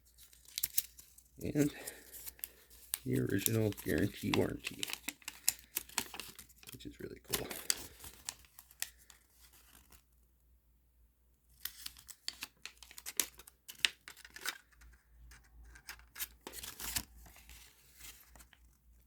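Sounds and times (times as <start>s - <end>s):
paper rustling and crinkling: 0.0s - 10.0s, 11.6s - 19.0s.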